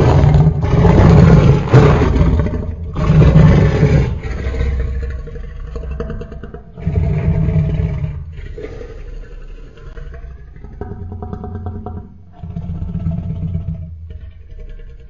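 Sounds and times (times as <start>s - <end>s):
deep loud dinosaur roar: 0.0s - 15.0s
growl: 0.0s - 15.0s.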